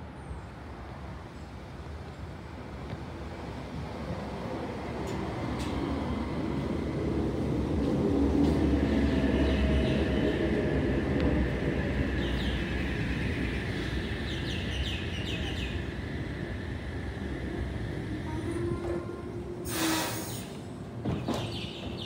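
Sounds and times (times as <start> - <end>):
electric train rumbling past: 0.5 - 22.0.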